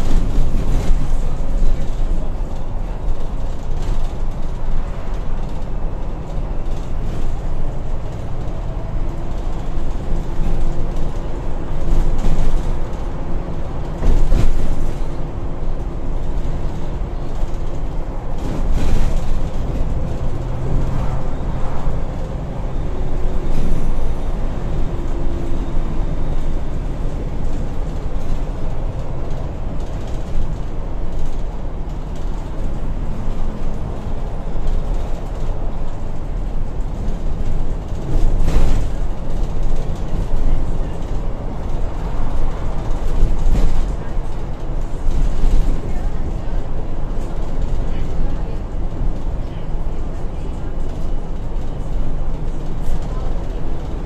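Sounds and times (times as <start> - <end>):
bus diesel engine pulling: 0.0 - 54.0
road and tyre noise: 0.0 - 54.0.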